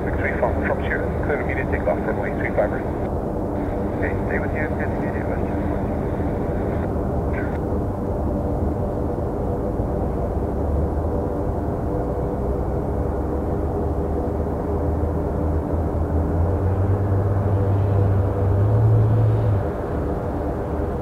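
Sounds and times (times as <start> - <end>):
jet airliner engine rumble: 0.0 - 21.0.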